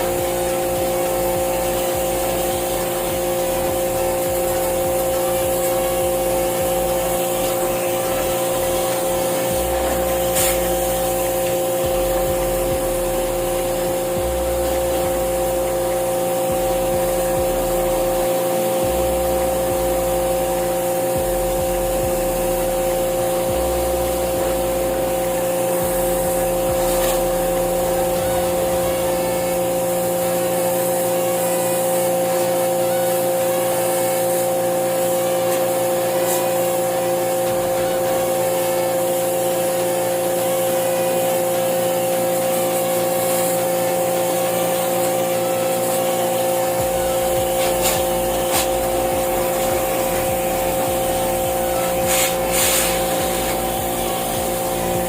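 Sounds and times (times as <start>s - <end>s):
pressure washer motor whine: 0.0s - 55.0s
water jet hissing: 0.0s - 55.0s.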